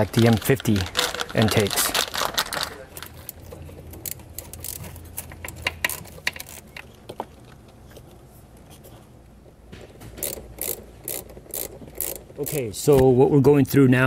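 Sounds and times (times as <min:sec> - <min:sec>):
engine parts clicking and tapping: 0:00.0 - 0:08.7, 0:09.4 - 0:13.2.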